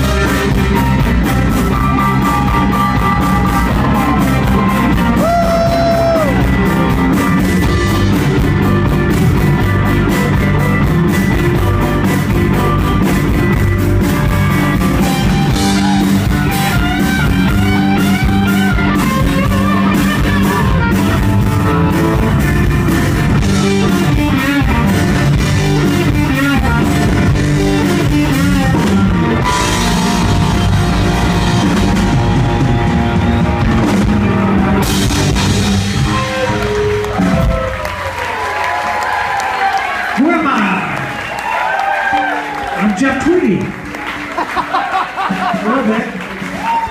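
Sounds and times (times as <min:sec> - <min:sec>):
electric guitar lead: 0:00.0 - 0:45.2
drums: 0:00.0 - 0:46.9.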